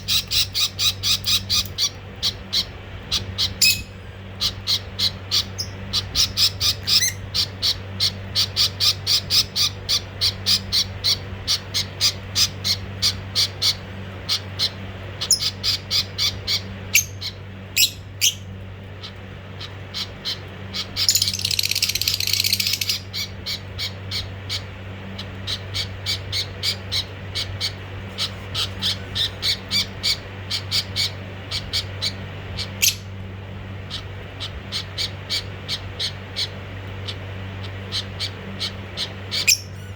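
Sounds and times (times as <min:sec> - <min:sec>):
budgerigars chirping: 0:00.0 - 0:33.1, 0:33.9 - 0:39.9.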